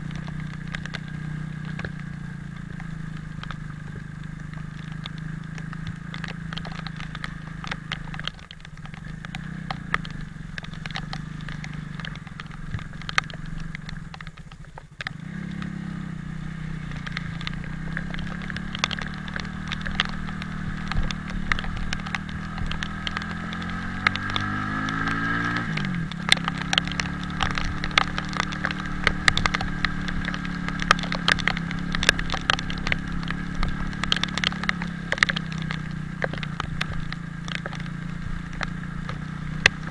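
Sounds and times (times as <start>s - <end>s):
motorcycle engine revving: 0.0s - 39.9s
rain ticking on microphone: 0.0s - 39.9s.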